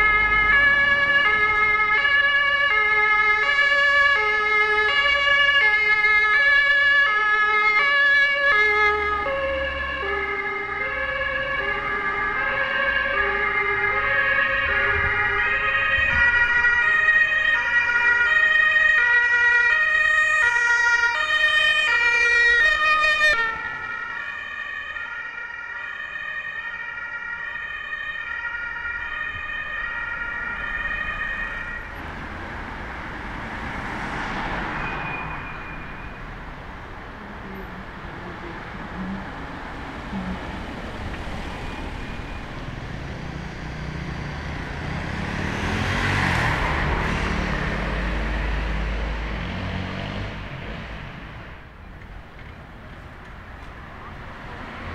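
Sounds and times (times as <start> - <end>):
two-tone siren: 0.0 - 32.1, 33.6 - 36.6, 37.6 - 50.3
passing cars: 0.0 - 54.9.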